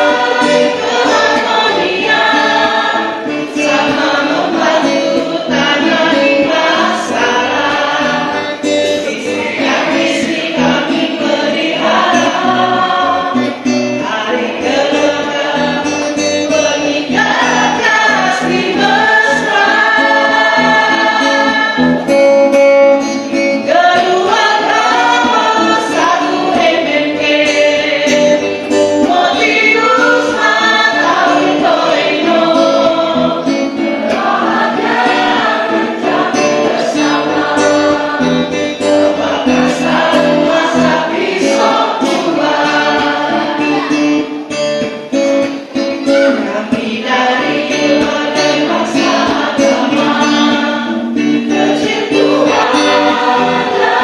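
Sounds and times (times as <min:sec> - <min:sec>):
mixed choir singing: 0:00.0 - 0:44.9, 0:46.0 - 0:54.0
instrumental backing: 0:00.0 - 0:54.0.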